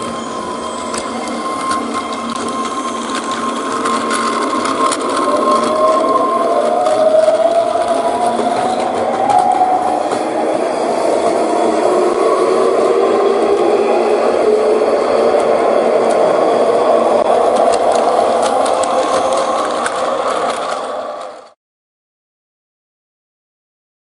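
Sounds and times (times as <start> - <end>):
electric train motor whine: 0.0 - 21.6
rail running noise: 0.0 - 21.6.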